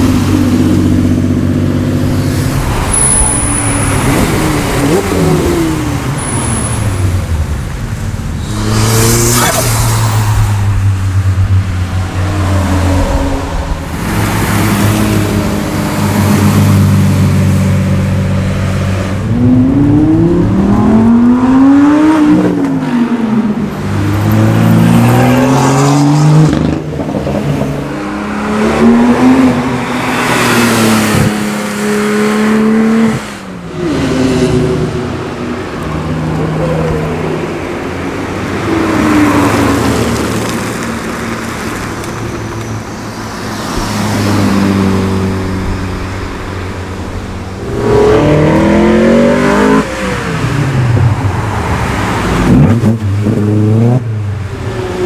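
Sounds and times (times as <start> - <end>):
performance car engines revving past: 0.0 - 55.0.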